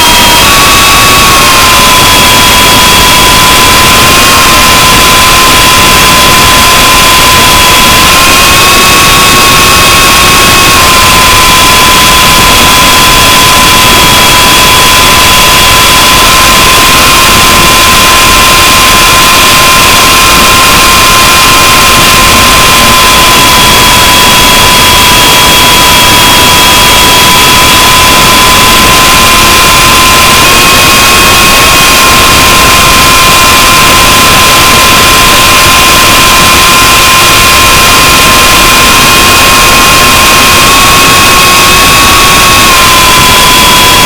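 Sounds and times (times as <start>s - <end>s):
model helicopter motor whine: 0.0s - 44.0s.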